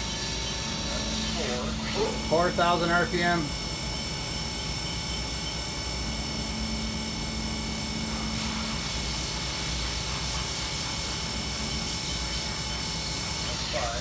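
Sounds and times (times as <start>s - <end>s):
machine spindle whine: 0.0s - 14.0s.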